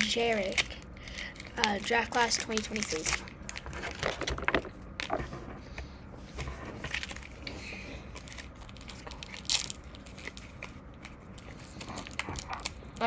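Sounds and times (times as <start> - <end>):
foil wrappers crinkling: 0.0 - 5.2, 6.9 - 13.0
cards being shuffled: 0.0 - 5.4, 6.4 - 13.0.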